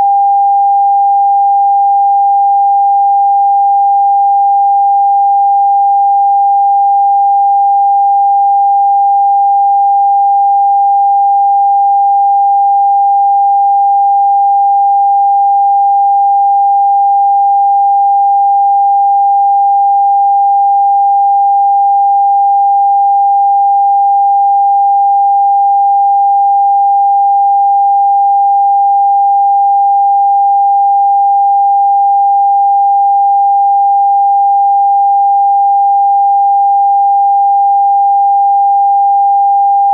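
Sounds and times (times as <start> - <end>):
steady sine tone: 0.0 - 36.4.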